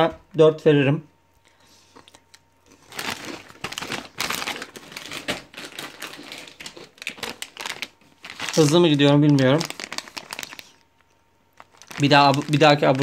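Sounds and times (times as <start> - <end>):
snack bags crinkling: 2.0 - 13.0.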